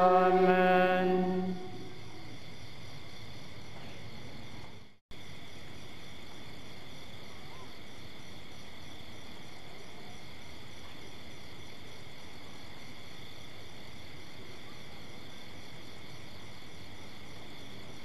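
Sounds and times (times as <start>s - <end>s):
night insects chirring: 0.0s - 18.0s.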